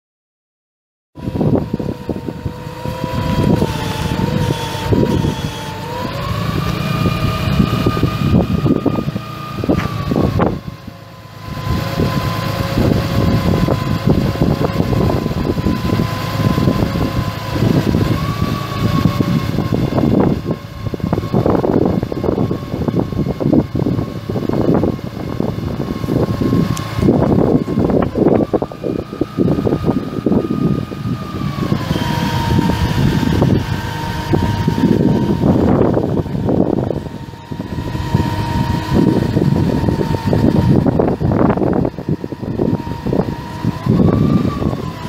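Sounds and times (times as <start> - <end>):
diesel engine running: 1.2 - 45.0
low buffeting: 1.2 - 45.0
steady whine: 1.2 - 45.0.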